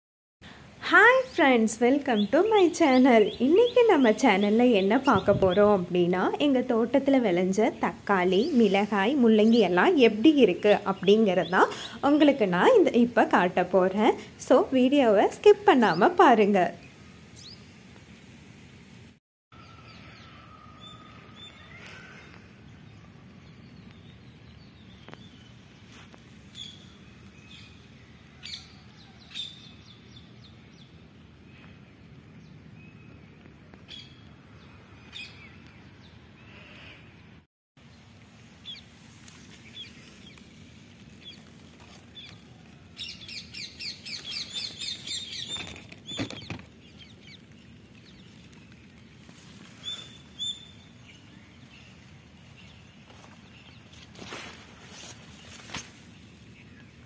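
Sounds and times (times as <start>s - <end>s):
birds chirping: 1.1s - 17.7s, 19.6s - 57.0s.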